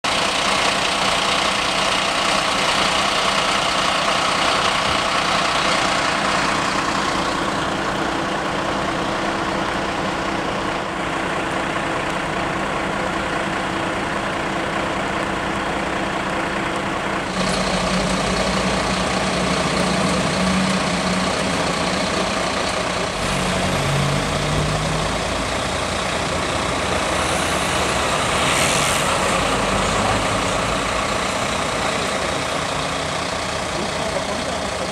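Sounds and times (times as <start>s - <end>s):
diesel engines idling: 0.0s - 34.9s.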